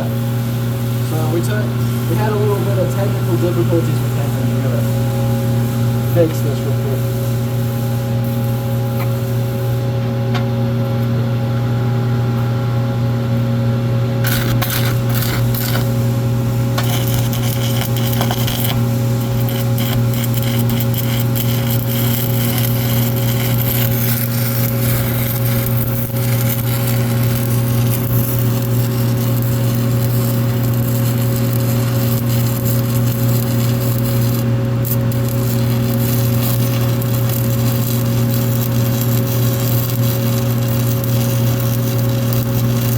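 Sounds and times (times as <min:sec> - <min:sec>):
welding arc crackling: 0:00.0 - 0:11.0, 0:14.2 - 0:42.9
low electrical hum: 0:00.0 - 0:42.9.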